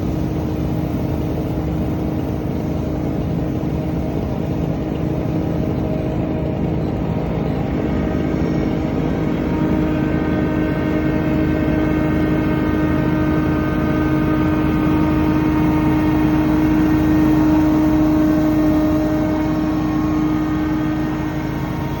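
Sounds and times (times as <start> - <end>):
leaf blower running: 3.1 - 22.0.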